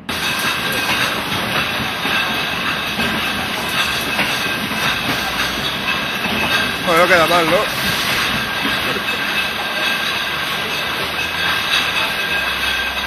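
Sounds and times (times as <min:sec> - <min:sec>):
conveyor machinery clatter: 0:00.0 - 0:13.0
glass bottles clinking: 0:00.0 - 0:13.0.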